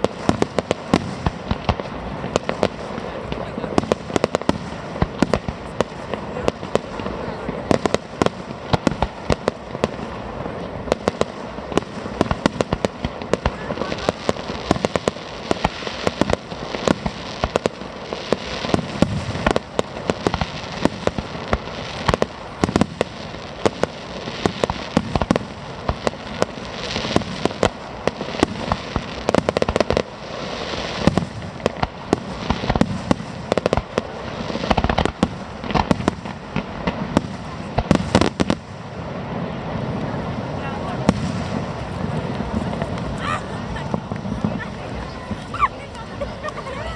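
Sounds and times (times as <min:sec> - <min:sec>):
fireworks bangs: 0:00.0 - 0:46.9
fireworks crackling: 0:00.0 - 0:46.9.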